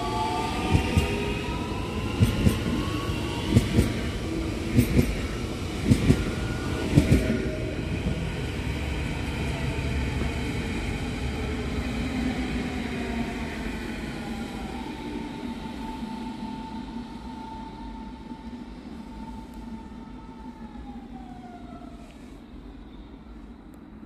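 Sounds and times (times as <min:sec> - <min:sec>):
electric train rolling rumble: 0:00.0 - 0:24.0.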